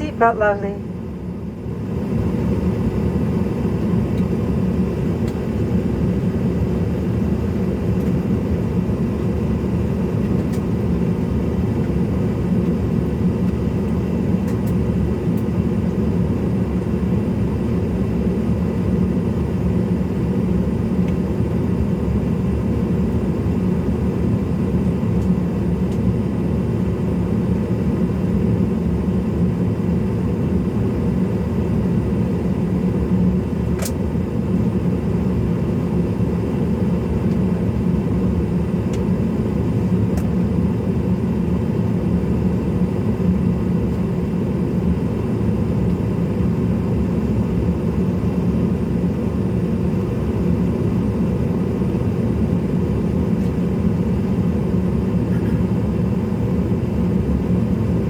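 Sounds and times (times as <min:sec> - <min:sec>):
airliner cabin rumble and hum: 0:00.0 - 0:58.0.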